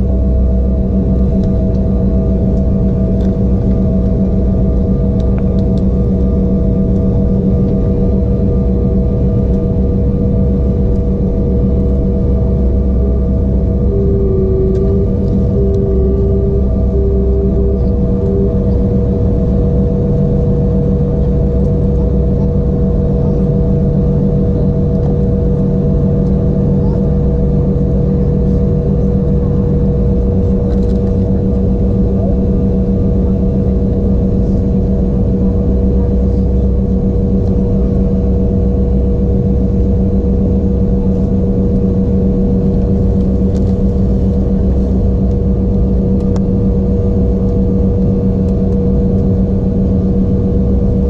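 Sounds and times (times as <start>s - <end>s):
aircraft cabin drone: 0.0s - 51.0s
jet engine whining tones: 0.0s - 51.0s.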